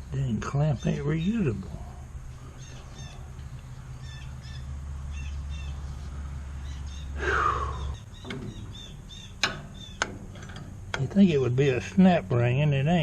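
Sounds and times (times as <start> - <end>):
birds chirping: 0.0 - 13.0
low hum: 1.0 - 13.0.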